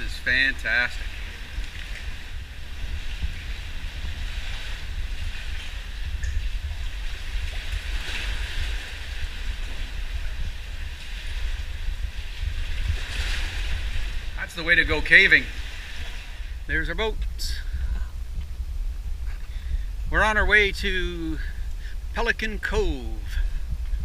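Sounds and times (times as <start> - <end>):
sea water and small waves: 0.0 - 24.0
wind buffeting microphone: 0.0 - 24.0.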